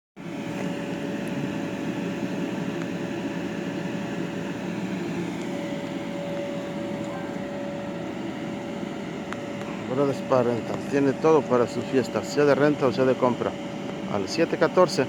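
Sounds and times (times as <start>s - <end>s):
machine hum: 0.2s - 15.0s
thin steady whine: 0.2s - 15.0s.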